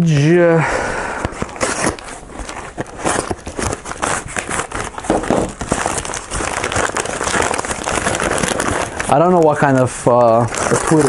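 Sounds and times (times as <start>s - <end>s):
plastic mailer bag tearing and crinkling: 1.2s - 11.0s.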